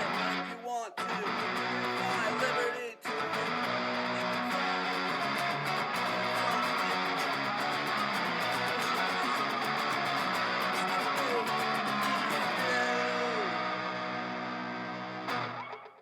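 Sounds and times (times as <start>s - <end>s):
electric guitar music with beat: 0.0s - 16.0s.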